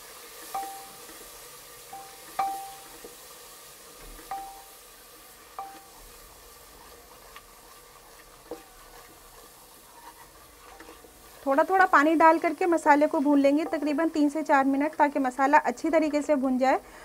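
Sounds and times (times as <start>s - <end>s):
spice paste sizzling: 0.0s - 17.0s.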